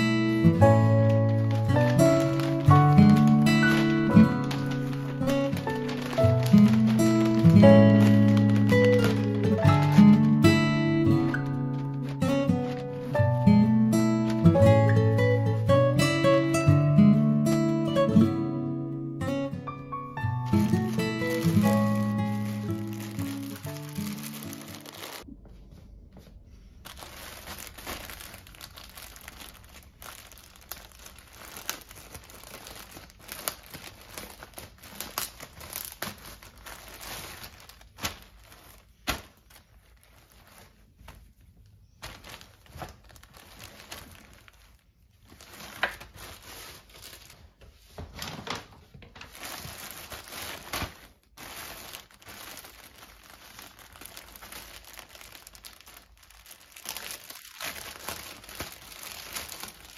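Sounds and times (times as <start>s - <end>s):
clothing rustling: 0.0s - 10.4s, 11.2s - 13.2s, 20.5s - 59.9s
plastic bags crinkling: 0.0s - 16.9s, 19.7s - 25.4s, 26.3s - 59.9s.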